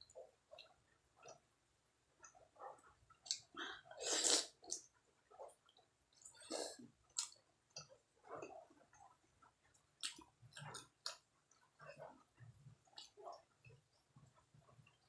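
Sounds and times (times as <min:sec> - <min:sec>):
wet chewing and mouth sounds: 0:02.2 - 0:15.0.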